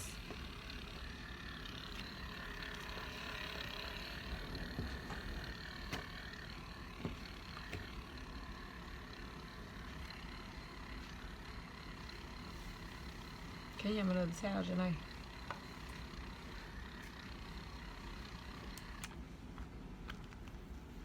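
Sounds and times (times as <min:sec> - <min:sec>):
small motor whirring: 0:00.0 - 0:19.2.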